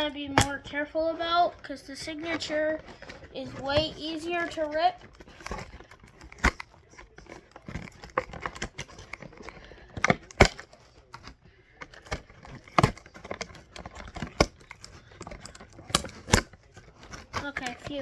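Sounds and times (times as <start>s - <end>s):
plastic clicks and snaps: 0.0s - 18.0s.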